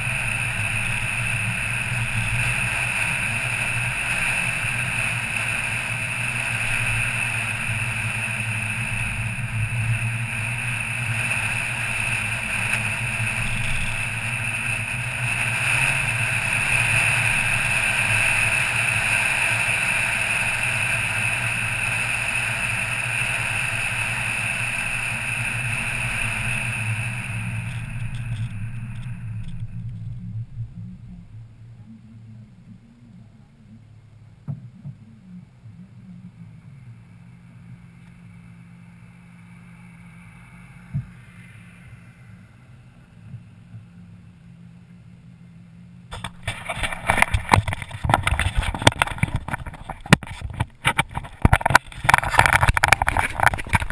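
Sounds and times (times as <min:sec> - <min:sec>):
car driving on road: 0:00.0 - 0:53.9.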